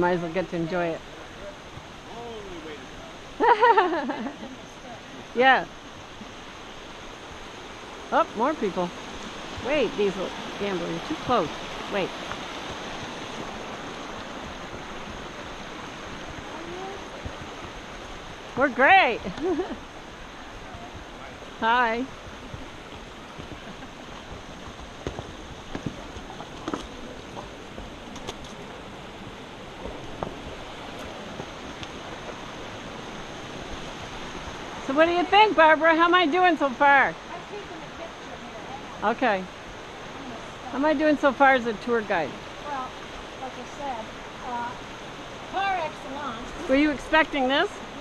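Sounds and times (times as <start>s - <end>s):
creek flowing over rocks: 0.0s - 48.0s.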